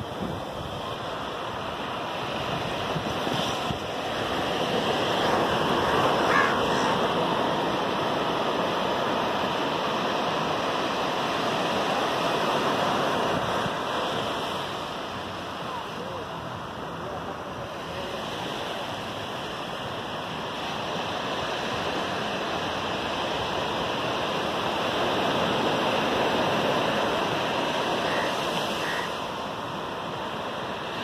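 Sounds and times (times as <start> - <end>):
surf washing on beach: 0.0 - 31.0
wind on microphone: 0.0 - 31.0.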